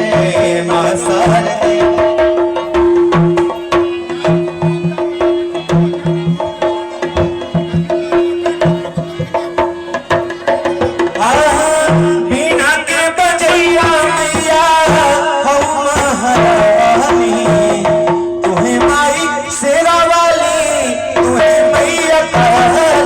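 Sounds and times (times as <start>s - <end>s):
hand drums playing brisk rhythm: 0.0s - 23.0s
person singing: 0.0s - 23.0s.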